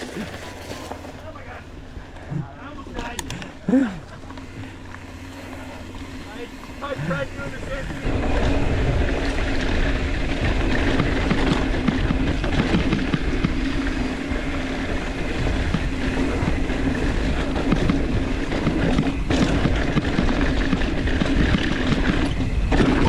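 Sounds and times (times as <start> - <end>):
tyres crunching over gravel: 0.0 - 23.0
bike rattling and knocking: 2.7 - 23.0.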